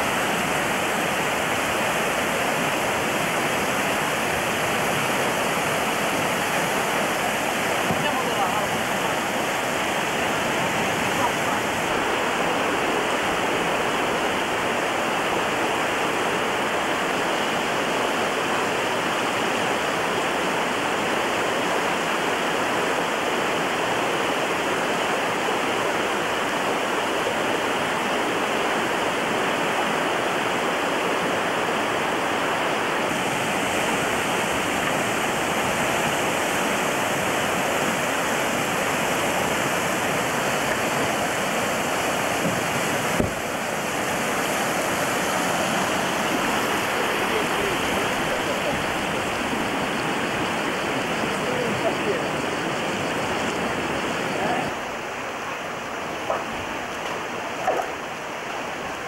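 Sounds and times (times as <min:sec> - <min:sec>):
river rapids rushing: 0:00.0 - 0:59.0.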